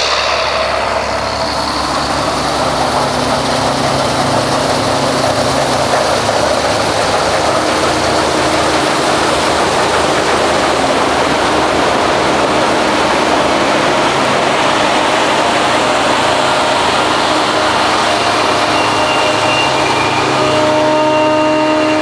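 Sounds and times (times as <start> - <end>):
dense rushing noise: 0.0 - 20.6
heavy diesel engine running: 0.0 - 22.0.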